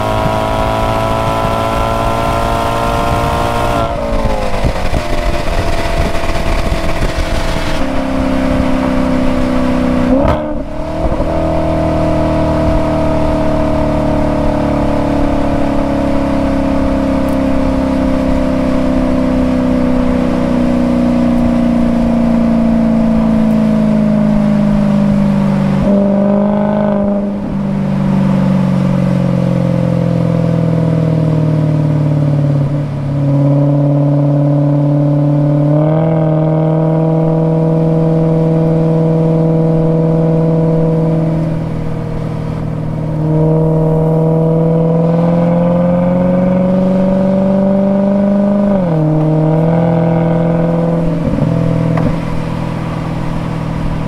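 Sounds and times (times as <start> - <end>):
car engine at speed: 0.0 - 54.0.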